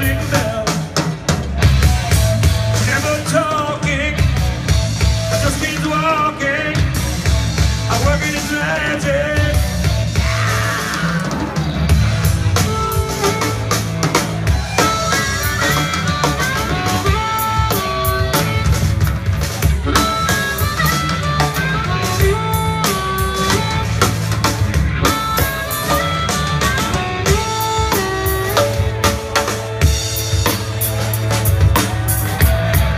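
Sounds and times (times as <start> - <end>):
bass: 0.0 - 32.9
bending lead guitar notes: 0.0 - 32.9
drum kit beat: 0.0 - 32.9.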